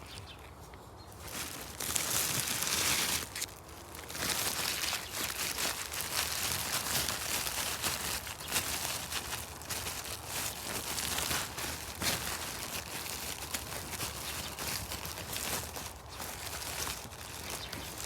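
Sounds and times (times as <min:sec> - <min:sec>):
foliage rustling and crinkling: 0:00.0 - 0:18.0.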